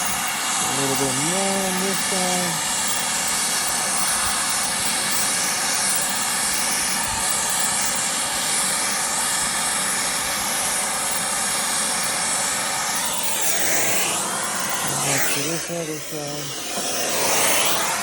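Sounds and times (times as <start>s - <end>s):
torch flame hissing: 0.0s - 18.0s.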